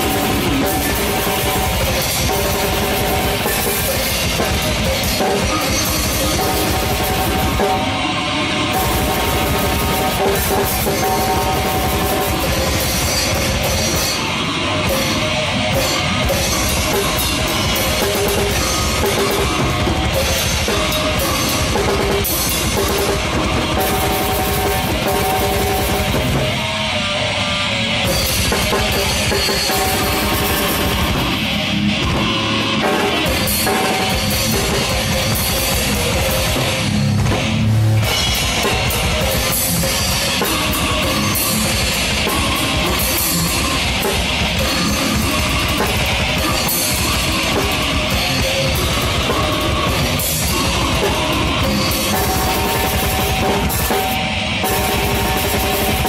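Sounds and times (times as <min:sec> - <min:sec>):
bass guitar: 0:00.0 - 0:56.0
distorted electric guitar: 0:00.0 - 0:56.0
fast drum kit: 0:00.0 - 0:56.0.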